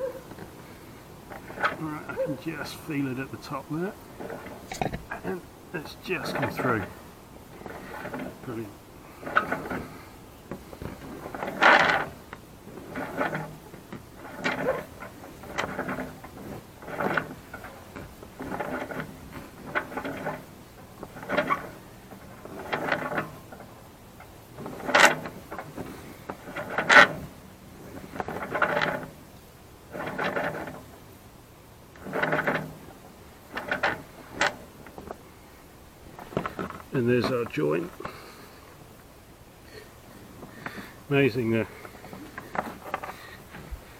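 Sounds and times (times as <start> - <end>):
rope rasping through mast: 0.0 - 31.2, 31.8 - 35.4, 39.7 - 43.9.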